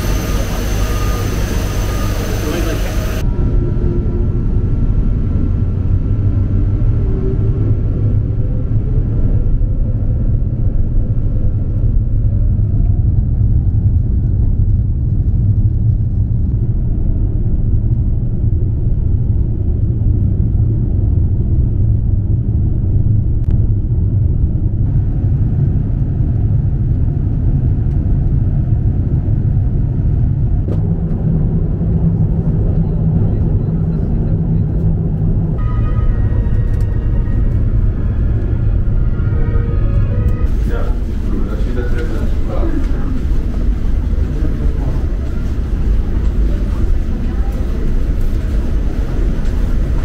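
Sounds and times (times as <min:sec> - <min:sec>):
airliner cabin deep rumble: 0:00.0 - 0:50.0.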